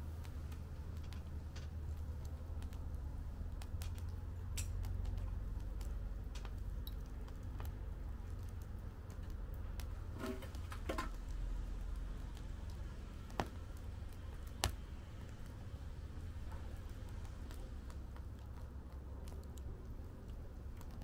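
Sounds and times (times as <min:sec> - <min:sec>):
fire popping: 0:00.0 - 0:21.0
low steady rumble: 0:00.0 - 0:21.0
wood fire crackling: 0:00.0 - 0:21.0.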